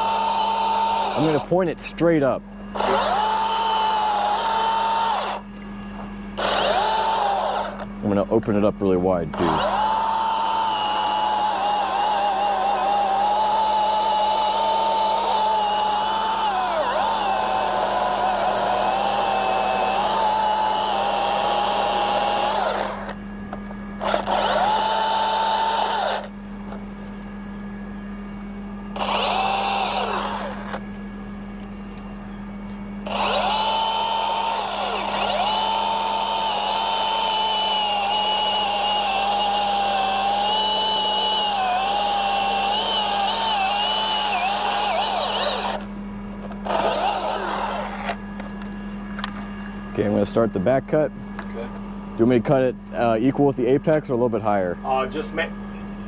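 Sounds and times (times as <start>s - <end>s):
electric chainsaw whine: 0.0s - 27.2s, 28.8s - 31.0s, 33.0s - 48.6s.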